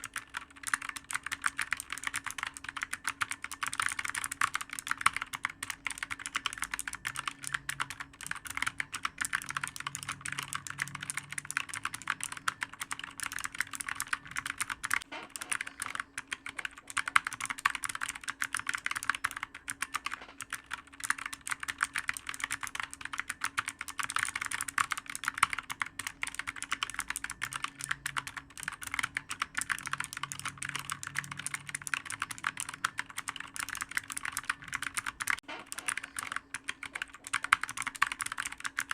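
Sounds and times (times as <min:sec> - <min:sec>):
rapid keyboard typing: 0:00.0 - 0:38.9.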